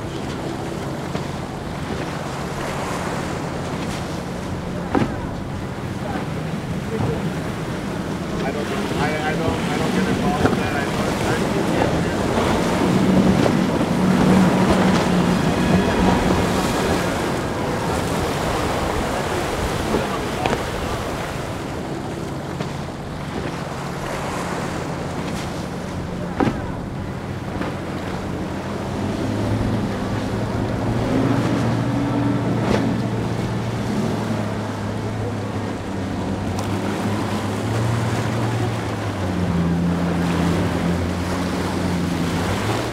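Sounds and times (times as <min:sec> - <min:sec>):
outboard engines droning: 0:00.0 - 0:42.9
waves washing: 0:00.0 - 0:42.9
wind on microphone: 0:00.0 - 0:42.9.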